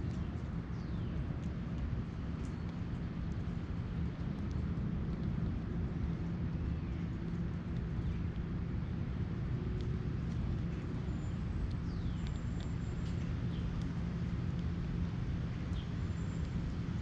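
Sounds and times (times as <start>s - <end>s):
faint hum: 0.0s - 17.0s
steady low rumble: 0.0s - 17.0s.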